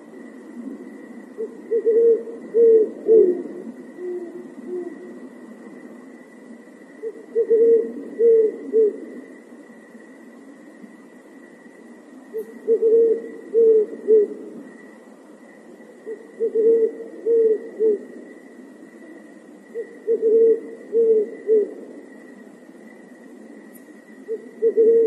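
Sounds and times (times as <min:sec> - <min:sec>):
owl hooting: 0:00.0 - 0:25.0.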